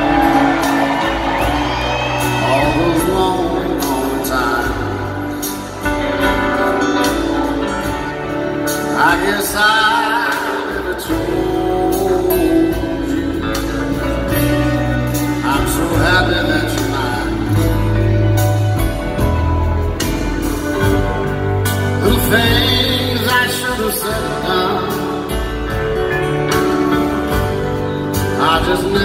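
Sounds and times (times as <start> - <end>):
live band playing country ballad: 0.0 - 29.0
person singing: 0.0 - 29.0.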